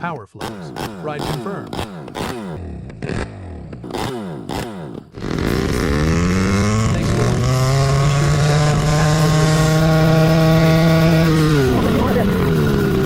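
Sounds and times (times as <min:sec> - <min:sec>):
small motorcycle engine revving: 0:00.4 - 0:13.0.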